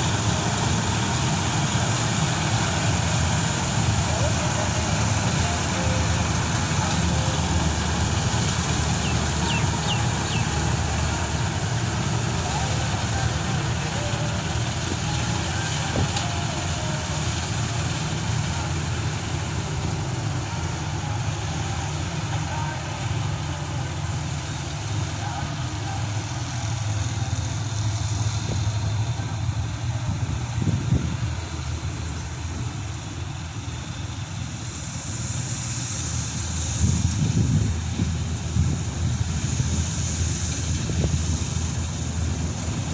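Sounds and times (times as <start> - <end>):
combine harvester droning: 0.0 - 42.9.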